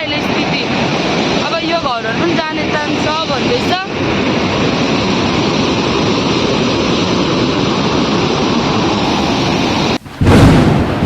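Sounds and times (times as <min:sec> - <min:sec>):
floodwater river roaring: 0:00.0 - 0:11.0.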